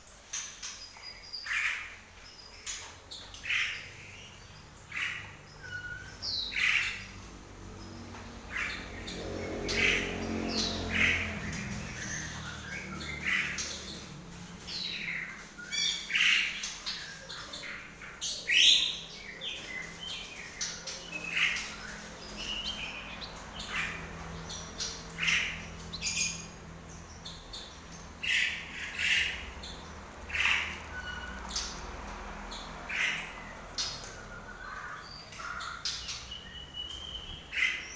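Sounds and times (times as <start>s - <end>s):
finch chirping: 0.3s - 37.9s.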